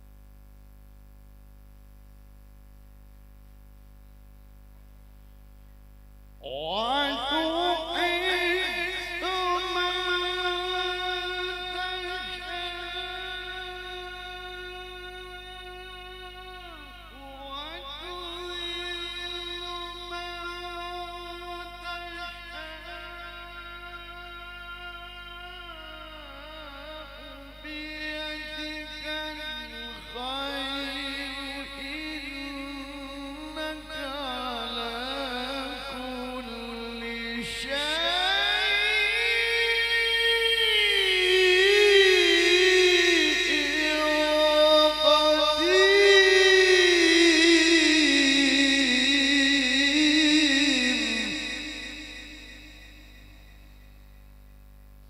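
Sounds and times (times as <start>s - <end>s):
man reciting melodically: 6.4s - 53.6s
man chanting through a loudspeaker: 6.4s - 53.9s.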